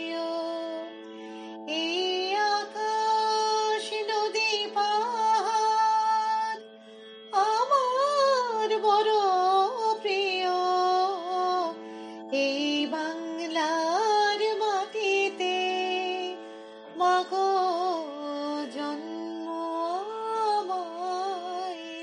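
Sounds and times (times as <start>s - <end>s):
woman singing: 0.0s - 1.0s, 1.7s - 6.6s, 7.3s - 16.4s, 17.0s - 22.0s
slow song with low drone: 0.0s - 22.0s.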